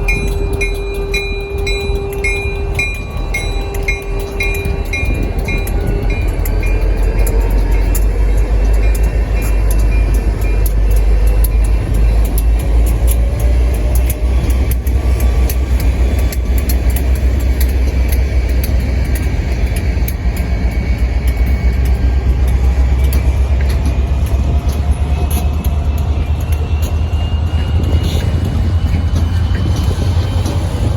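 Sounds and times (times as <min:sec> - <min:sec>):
train rumbling by: 0:00.0 - 0:30.9
wheels clicking over rail joints: 0:00.0 - 0:30.9.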